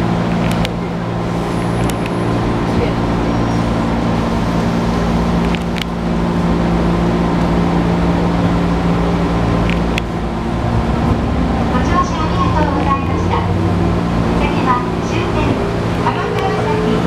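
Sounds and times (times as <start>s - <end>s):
train equipment humming: 0.0s - 17.0s
train rumble: 0.0s - 17.0s.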